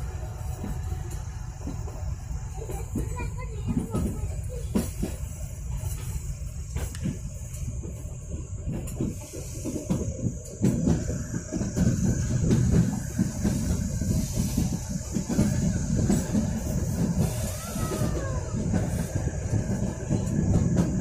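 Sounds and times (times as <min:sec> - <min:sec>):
train carriage rumbling and rattling: 0:00.0 - 0:21.0.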